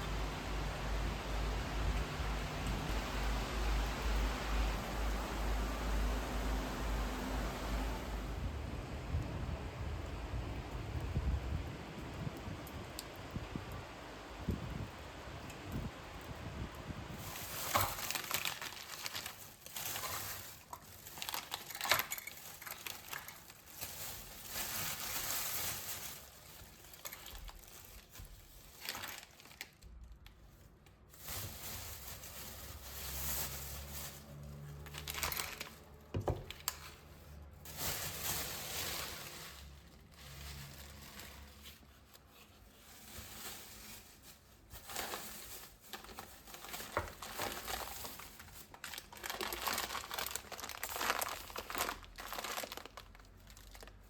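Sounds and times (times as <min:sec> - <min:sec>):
packaging crinkling and rustling: 0:00.0 - 0:09.2, 0:10.3 - 0:54.0.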